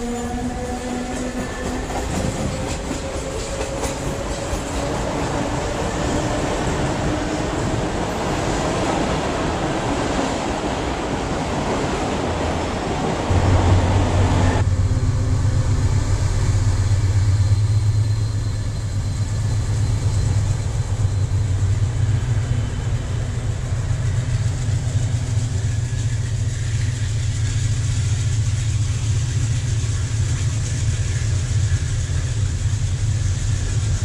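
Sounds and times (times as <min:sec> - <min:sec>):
diesel locomotive engine drone: 0:00.0 - 0:34.0
freight wagons rolling hiss: 0:00.0 - 0:34.0.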